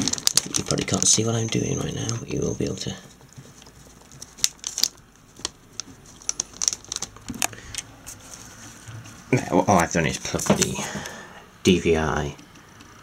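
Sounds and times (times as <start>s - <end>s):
rustling: 0.0s - 11.3s.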